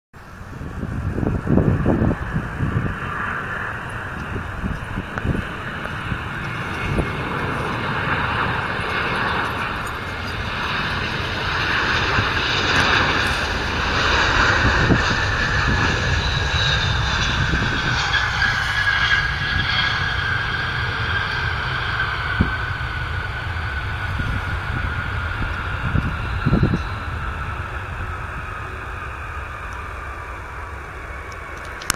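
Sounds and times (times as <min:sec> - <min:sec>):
airliner jet noise: 0:00.2 - 0:31.9
high engine whine sliding down: 0:00.3 - 0:31.9.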